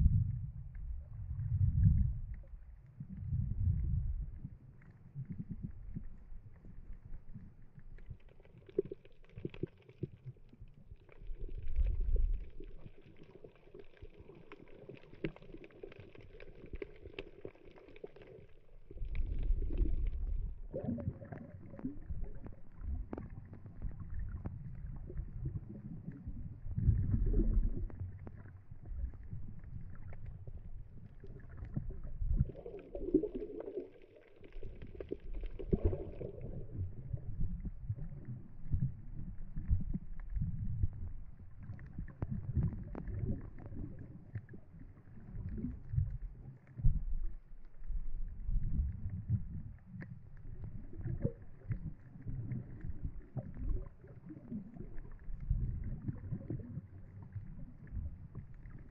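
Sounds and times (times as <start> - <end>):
underwater water sloshing: 0.0 - 58.9.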